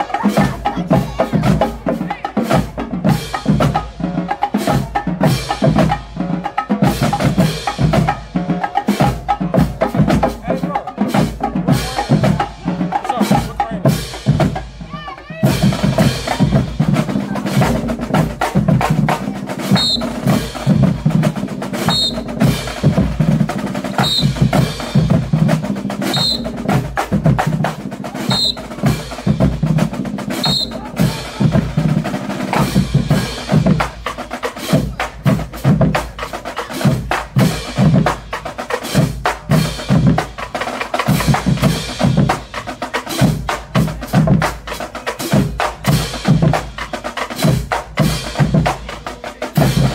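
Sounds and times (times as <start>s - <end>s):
snare drums rattling: 0.0s - 49.9s.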